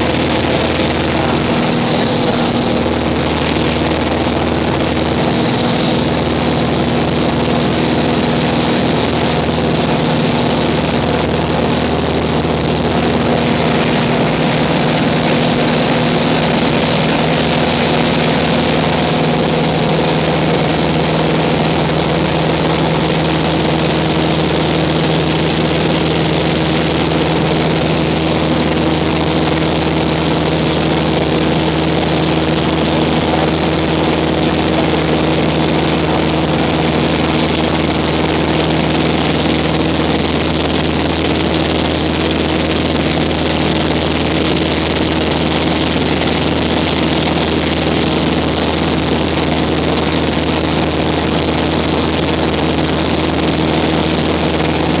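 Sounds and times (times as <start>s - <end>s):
aircraft engine and propeller in cabin: 0.0s - 55.0s.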